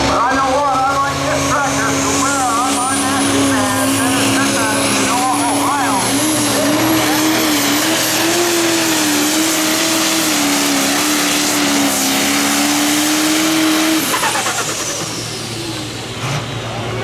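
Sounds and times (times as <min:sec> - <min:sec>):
diesel tractor engine at full throttle: 0:00.0 - 0:17.0.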